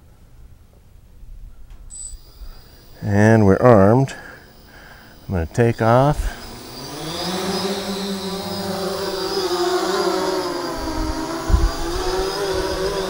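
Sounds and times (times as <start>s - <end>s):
drone motors whirring: 1.9s - 13.0s.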